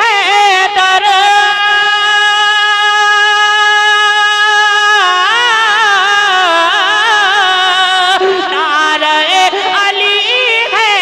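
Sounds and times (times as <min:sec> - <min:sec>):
person singing wordless melisma: 0:00.0 - 0:11.0.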